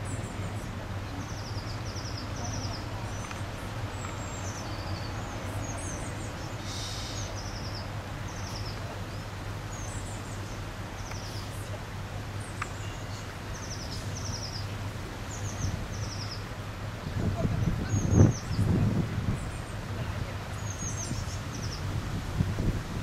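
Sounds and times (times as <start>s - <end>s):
low outdoor background hum: 0.0s - 23.0s
songbirds chirping: 0.0s - 23.0s.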